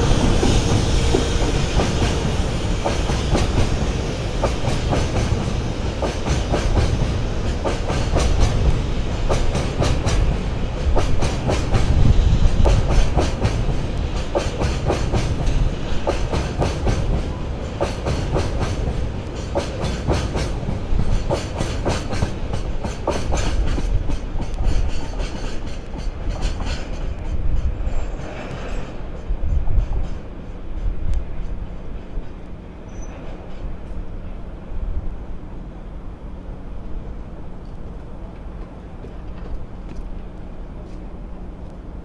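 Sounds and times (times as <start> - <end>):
freight train rolling past: 0.0 - 42.0.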